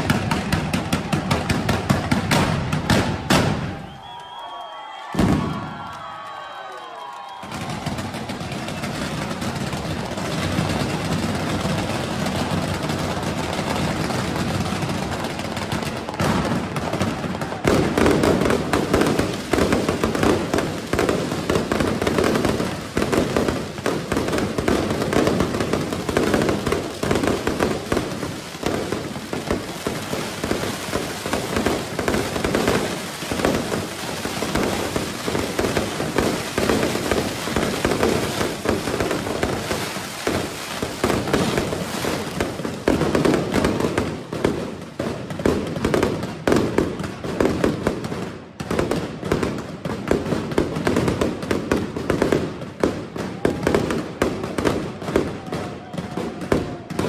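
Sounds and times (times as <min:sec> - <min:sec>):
fireworks cracks and bangs: 0:00.0 - 0:57.0.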